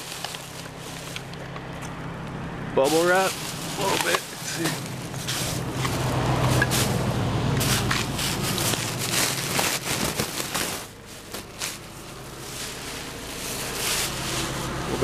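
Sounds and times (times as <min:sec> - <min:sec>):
plastic bags rustling: 0:00.0 - 0:01.8, 0:02.8 - 0:15.0.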